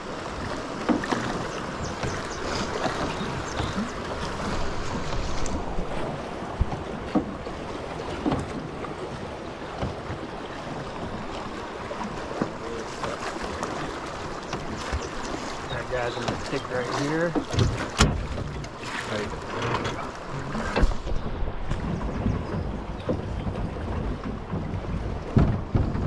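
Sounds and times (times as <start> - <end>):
wind buffeting microphone: 0.0 - 11.7, 13.4 - 26.0
boat knocking: 0.0 - 26.0
river water rushing: 0.0 - 26.0.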